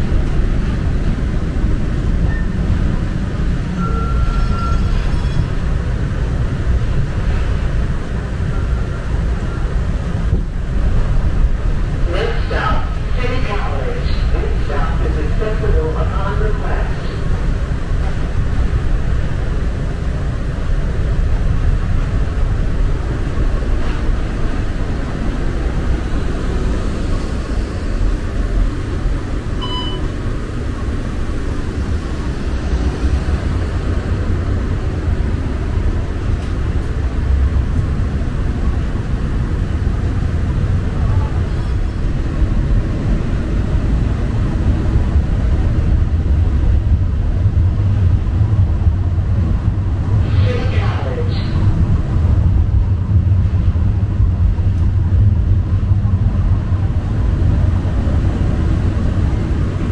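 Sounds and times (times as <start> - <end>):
light-rail train rumbling: 0.0 - 59.9.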